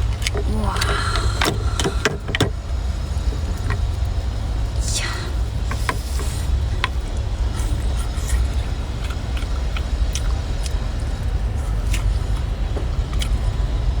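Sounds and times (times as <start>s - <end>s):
oyster shells clicking and scraping: 0.0s - 4.4s, 5.5s - 14.0s
steady low rumble: 0.0s - 14.0s.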